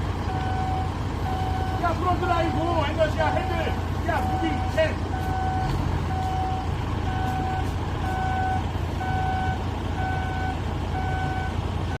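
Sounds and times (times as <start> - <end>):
heavy vehicle engine running: 0.0 - 12.0
reversing alarm beeps: 0.3 - 11.6.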